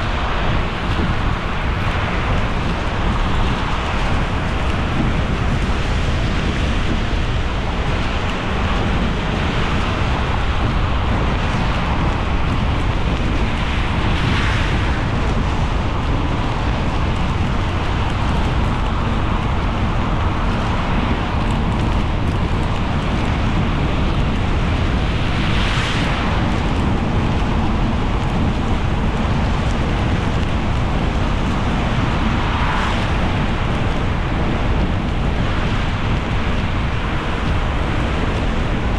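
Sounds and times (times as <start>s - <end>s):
low road rumble: 0.0s - 38.9s.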